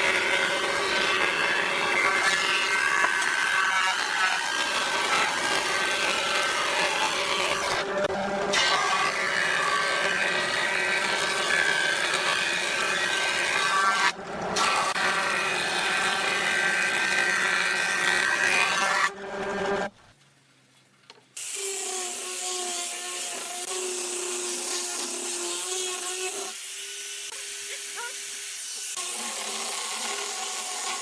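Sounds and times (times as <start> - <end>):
power tool cutting wood: 0.0 - 19.9, 21.4 - 31.0.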